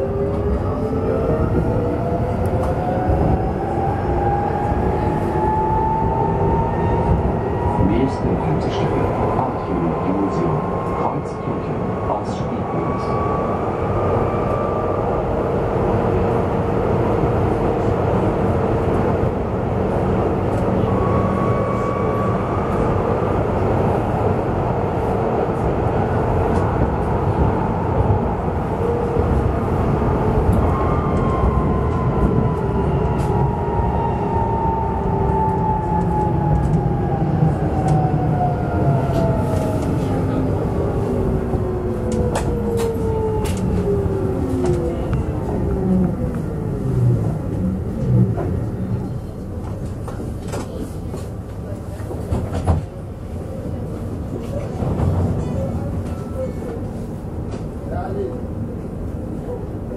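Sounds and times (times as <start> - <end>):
rumble of tram wheels: 0.0 - 59.9.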